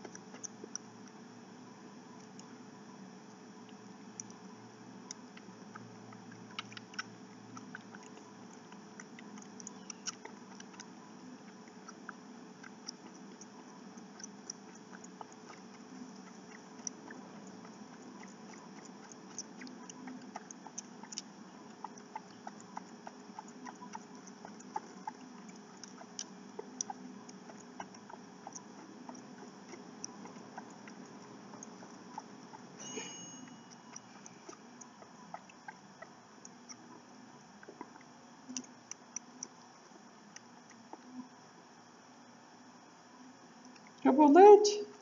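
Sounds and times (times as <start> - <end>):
kittens suckling from bottle: 0.0 - 1.2, 3.6 - 33.0, 33.7 - 41.3
faint steady hum: 0.0 - 45.0.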